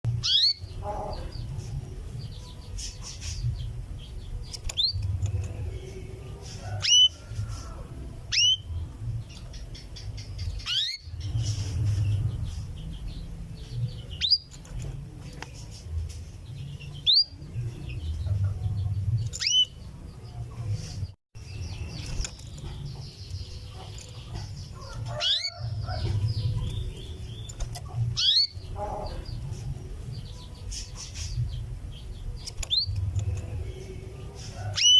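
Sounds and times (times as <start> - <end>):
canary calling: 0.1 - 5.4, 6.0 - 14.8, 16.8 - 20.1, 21.6 - 34.9.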